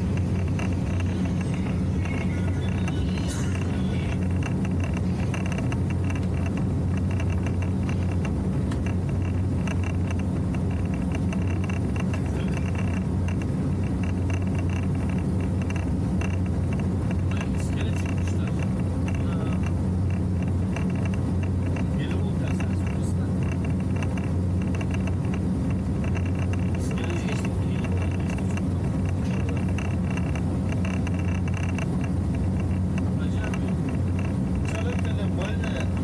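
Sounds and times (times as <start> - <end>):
fast fine rattle: 0.0 - 36.0
motorboat engine droning: 0.0 - 36.0.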